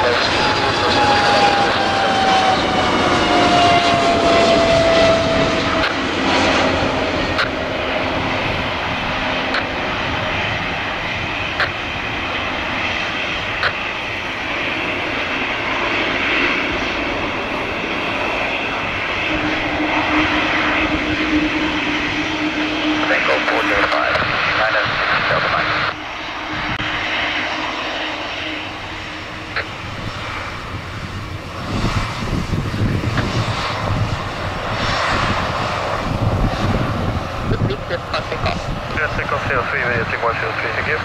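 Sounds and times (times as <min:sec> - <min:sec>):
airliner engines running: 0:00.0 - 0:41.0.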